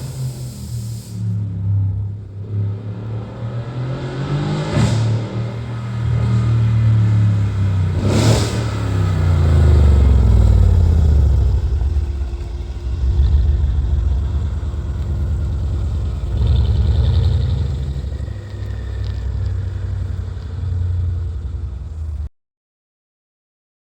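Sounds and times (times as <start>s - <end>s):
car engine revving: 0.0s - 22.3s.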